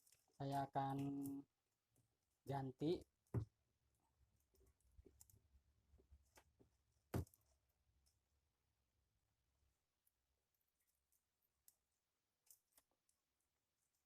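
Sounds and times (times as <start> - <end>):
small parts clicking and tapping: 0.0 - 3.6, 4.3 - 8.2, 10.0 - 14.0.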